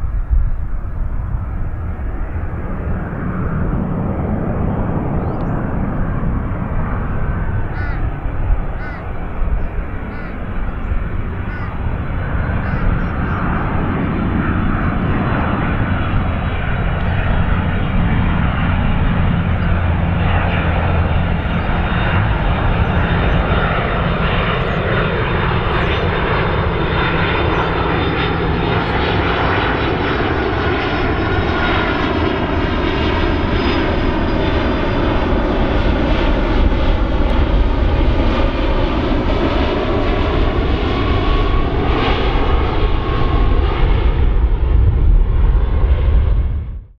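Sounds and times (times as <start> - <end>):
high fan whine: 0.0 - 45.6
jet aircraft rumble overhead: 0.0 - 46.9.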